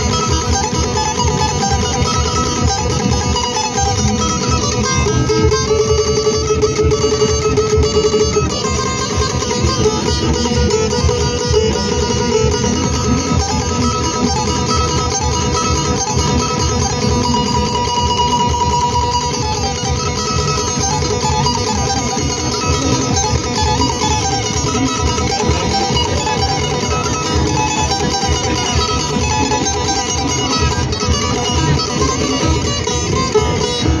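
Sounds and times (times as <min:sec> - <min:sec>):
plucked lute folk melody: 0:00.0 - 0:34.0.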